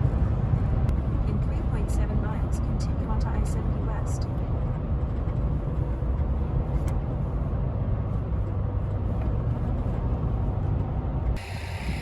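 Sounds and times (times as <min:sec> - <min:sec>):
outdoor background: 0:00.0 - 0:12.0
vehicle road and engine rumble: 0:00.0 - 0:12.0.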